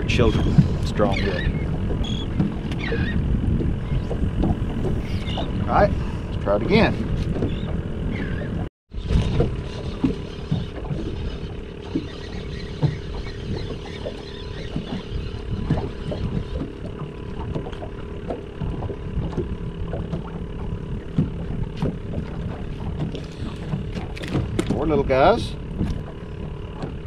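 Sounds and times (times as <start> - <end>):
steady low hum: 0.0 - 27.0
water lapping against boat hull: 0.0 - 27.0
wind: 0.0 - 27.0.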